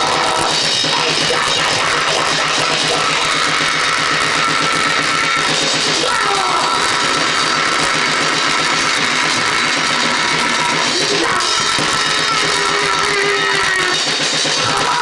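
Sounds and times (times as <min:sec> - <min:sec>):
distorted noise: 0:00.0 - 0:15.0
drum kit beaten fast: 0:00.0 - 0:15.0.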